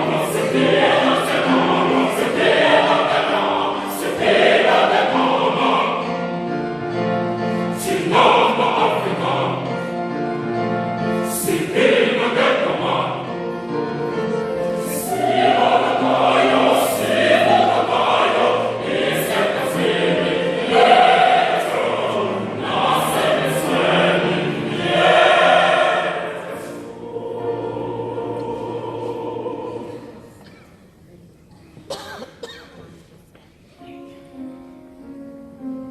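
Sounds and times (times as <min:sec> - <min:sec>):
choir singing in harmony: 0:00.0 - 0:30.5.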